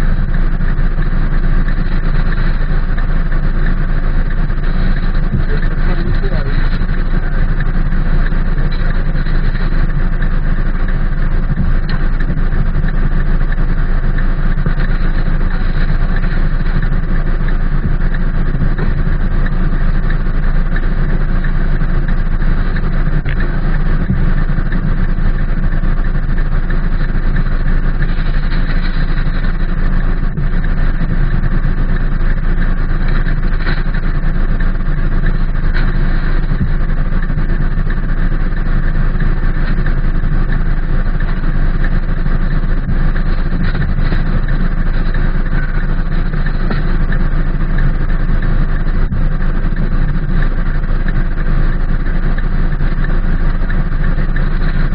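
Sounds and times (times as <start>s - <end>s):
low rumble: 0.0s - 54.9s
rain on a car: 0.0s - 54.9s.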